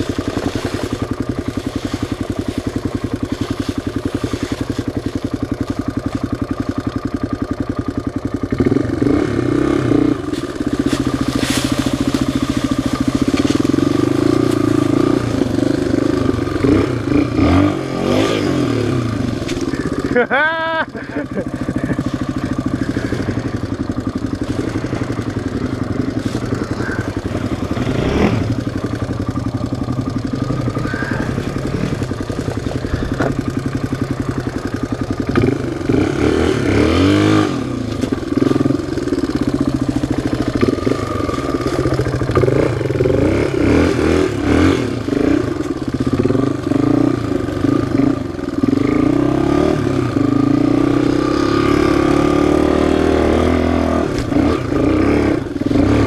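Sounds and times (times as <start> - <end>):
off-road engine running and revving: 0.0 - 56.0.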